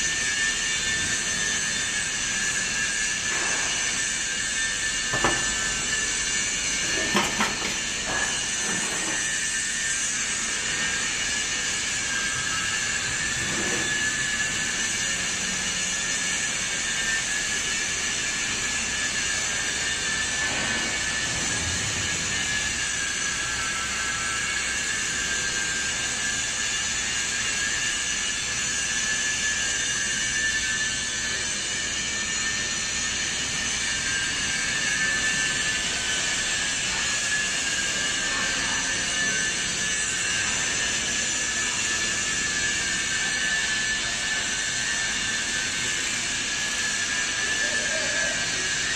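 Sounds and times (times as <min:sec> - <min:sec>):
hydraulic pump motor whining: 0:00.0 - 0:48.9.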